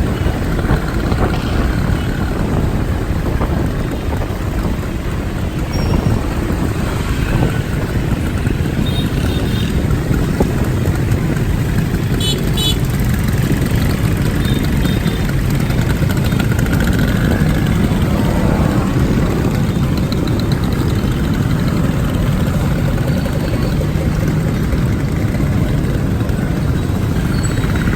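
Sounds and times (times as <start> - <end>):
motorcycle engine rumble: 0.0 - 27.9
road noise: 0.0 - 27.9.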